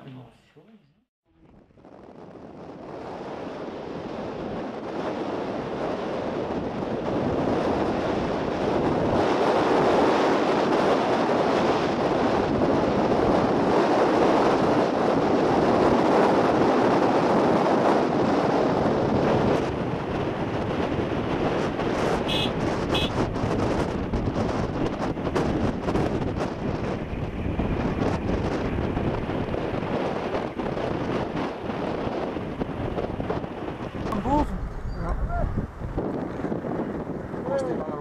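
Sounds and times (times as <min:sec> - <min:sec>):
wind rushing on microphone: 0:01.3 - 0:38.0
road noise: 0:01.4 - 0:38.0.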